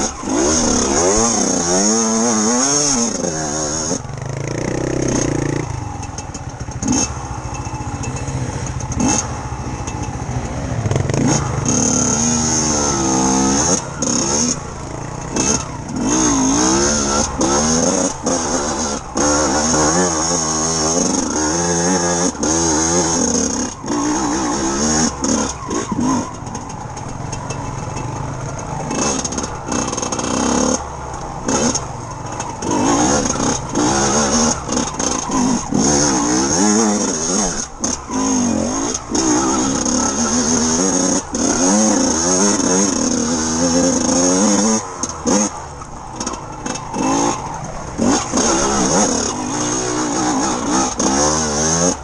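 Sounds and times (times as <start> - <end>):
sharp knocks and rattles: 0.0 - 12.8, 13.6 - 52.0
motorcycle engine revving: 0.0 - 52.0.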